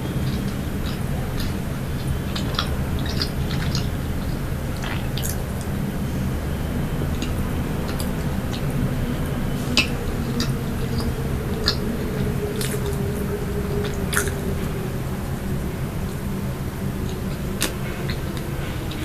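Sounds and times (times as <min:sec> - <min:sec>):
chewing soft pastry: 0:00.0 - 0:19.0
steady low hum: 0:00.0 - 0:19.0.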